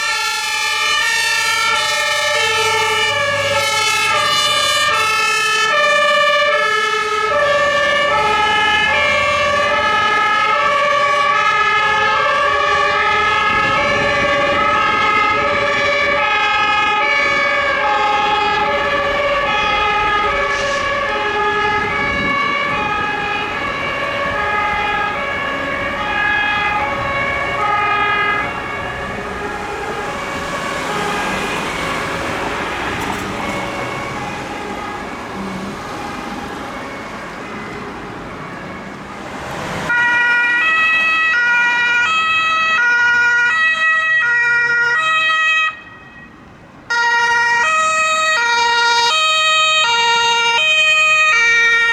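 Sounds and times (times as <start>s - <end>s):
two-tone emergency sirens: 0.0s - 51.9s
vehicle engines: 0.0s - 51.9s.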